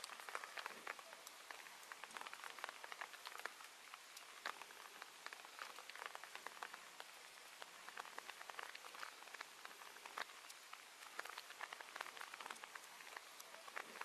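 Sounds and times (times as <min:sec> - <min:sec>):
faint rain pattering: 0:00.0 - 0:14.0.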